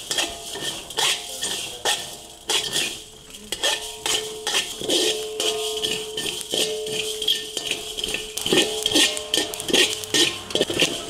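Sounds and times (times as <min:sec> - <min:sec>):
metal utensil scraping metal pan: 0:00.0 - 0:11.0.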